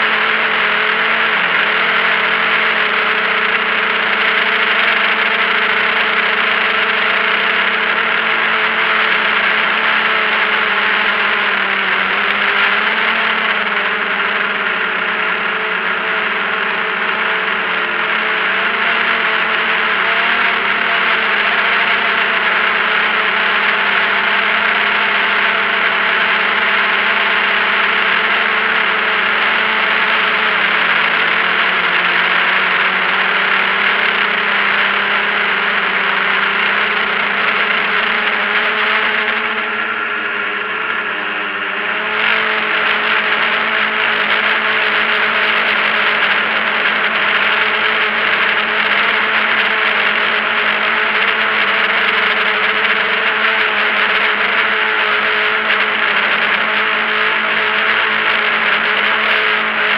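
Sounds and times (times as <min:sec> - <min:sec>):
drone propellers whirring: 0:00.0 - 0:59.9.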